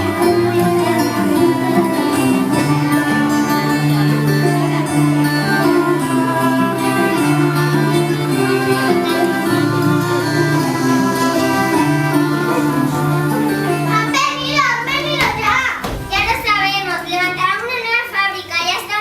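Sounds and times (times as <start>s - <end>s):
violin and guitar music: 0.0s - 17.0s.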